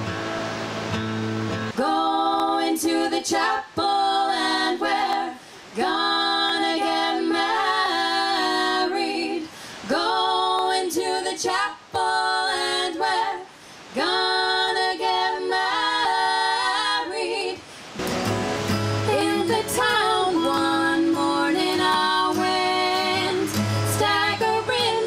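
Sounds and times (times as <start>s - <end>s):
women singing in harmony: 1.8s - 18.0s, 19.0s - 25.0s.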